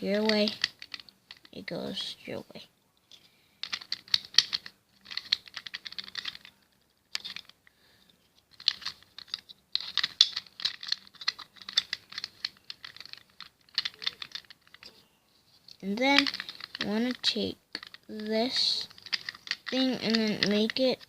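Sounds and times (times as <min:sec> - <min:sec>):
plastic puzzle pieces clicking: 0:00.0 - 0:01.6, 0:03.1 - 0:07.7, 0:08.4 - 0:15.0, 0:15.7 - 0:21.0.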